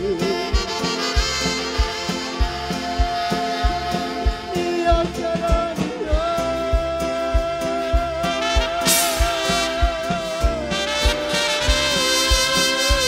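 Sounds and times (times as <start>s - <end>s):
gospel band music: 0.0s - 13.0s
kick drum beat: 0.0s - 13.0s
man singing into microphone: 0.0s - 13.0s.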